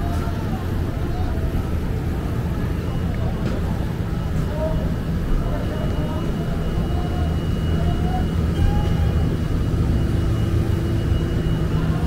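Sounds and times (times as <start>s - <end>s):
city street rumble and hum: 0.0s - 12.0s.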